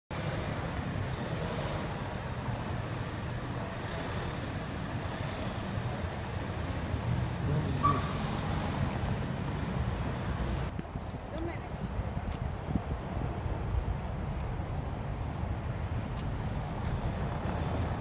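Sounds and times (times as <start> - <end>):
road traffic rumble: 0.1 - 18.0.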